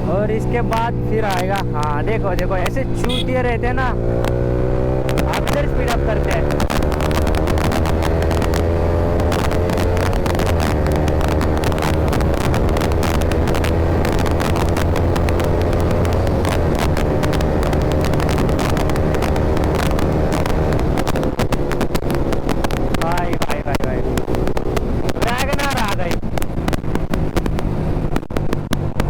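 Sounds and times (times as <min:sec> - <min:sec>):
motorcycle engine at speed: 0:00.0 - 0:29.0
wind buffeting microphone: 0:00.0 - 0:29.0.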